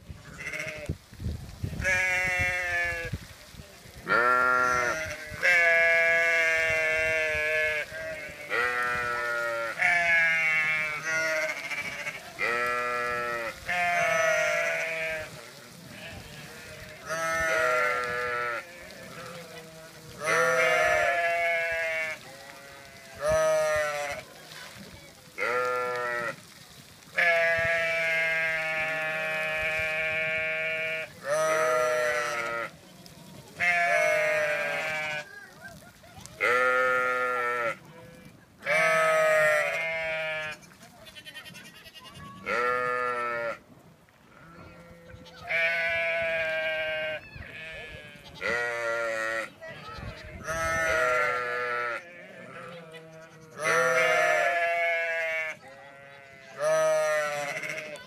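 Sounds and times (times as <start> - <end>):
sheep and goats bleating: 0.2 - 1.0, 1.6 - 3.2, 4.0 - 43.6, 44.3 - 58.0.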